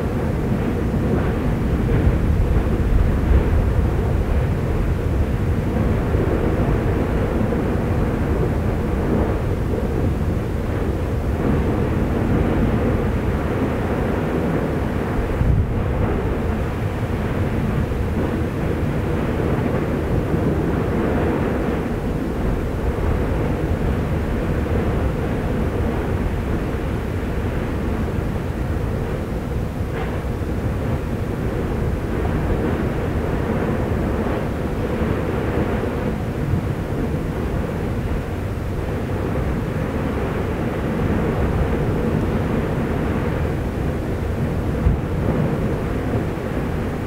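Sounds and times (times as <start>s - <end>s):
volcano rumbling: 0.0s - 47.0s.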